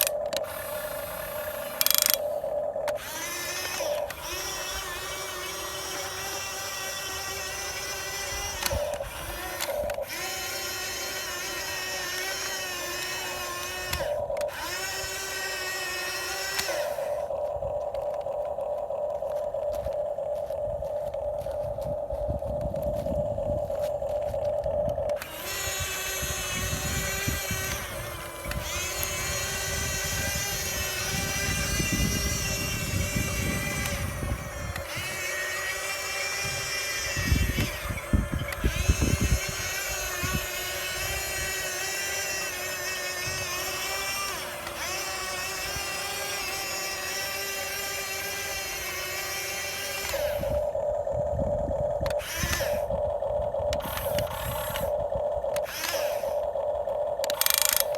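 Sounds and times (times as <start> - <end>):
small electric motor whining: 0.0 - 57.9.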